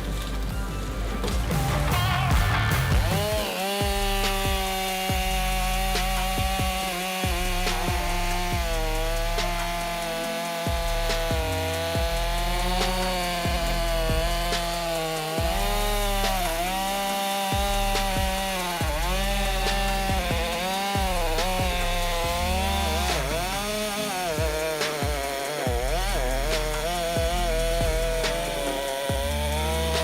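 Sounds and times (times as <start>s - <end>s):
background music with steady beat: 0.0s - 30.0s
saw motor cutting wood: 0.0s - 30.0s.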